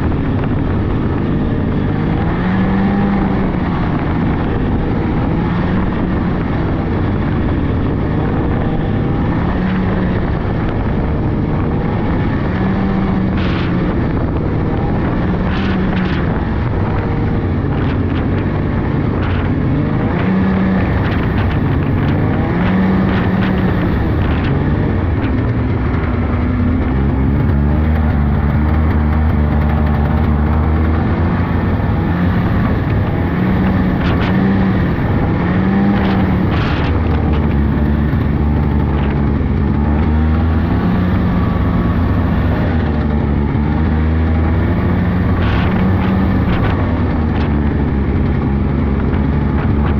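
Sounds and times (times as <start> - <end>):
snowmobile engine running: 0.0 - 49.9.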